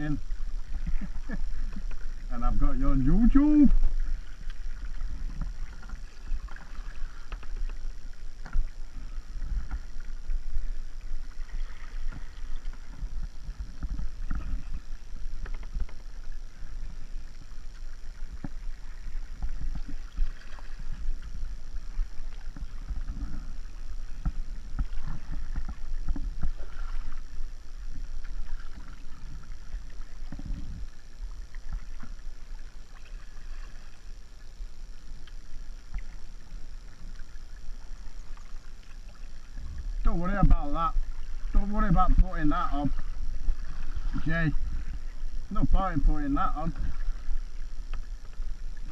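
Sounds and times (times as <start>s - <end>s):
paddle dipping in water: 0.0s - 48.9s
steady low rumble: 0.0s - 48.9s
water sloshing against hull: 0.0s - 48.9s.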